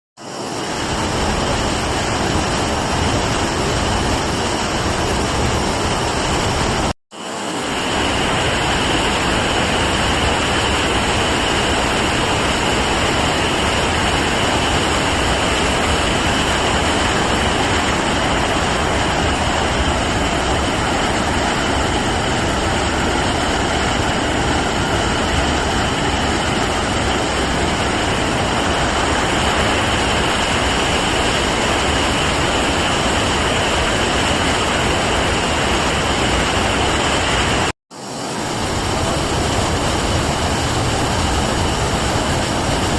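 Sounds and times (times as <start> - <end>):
waterfall roaring: 0.2 - 42.9.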